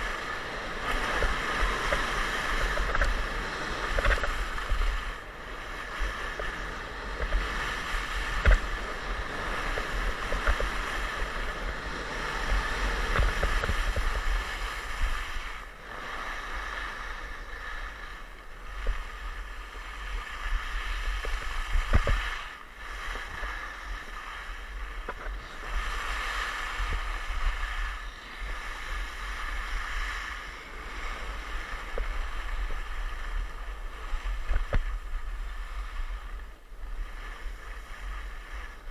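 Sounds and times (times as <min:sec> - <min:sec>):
skis scraping on snow: 0:00.0 - 0:38.9
wind rumbling on microphone: 0:00.0 - 0:38.9.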